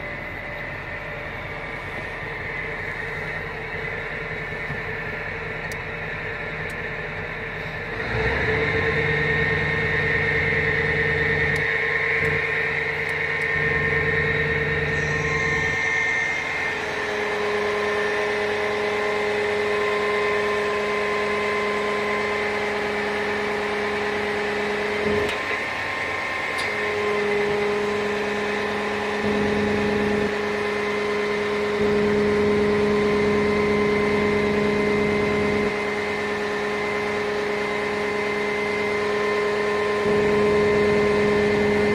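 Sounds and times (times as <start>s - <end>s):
fire truck engine running: 0.0s - 41.9s
high whine: 0.0s - 41.9s.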